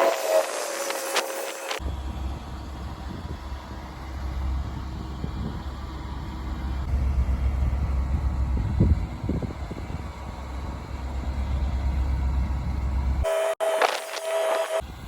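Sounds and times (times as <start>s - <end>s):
truck engine rumbling: 0.0s - 13.8s.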